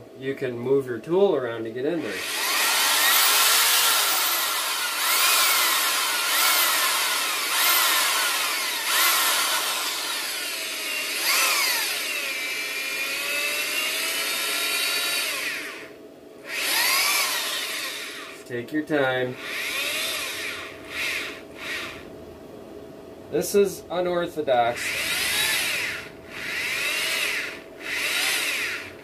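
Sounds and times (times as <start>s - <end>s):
power drill boring: 2.0s - 18.4s, 19.4s - 22.0s, 24.8s - 29.0s.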